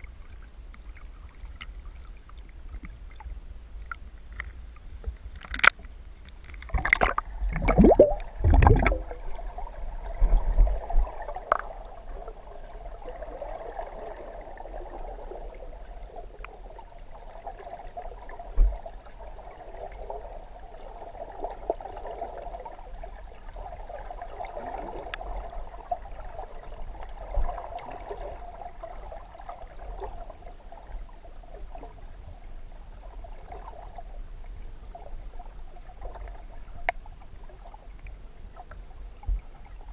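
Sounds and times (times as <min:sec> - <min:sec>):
water splashing and gurgling: 0:00.0 - 0:32.2
muffled underwater wash: 0:00.0 - 0:39.9.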